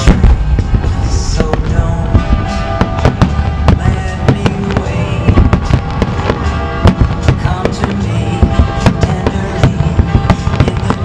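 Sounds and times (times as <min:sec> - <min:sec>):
firework shells bursting: 0:00.0 - 0:11.0
music: 0:00.0 - 0:11.0.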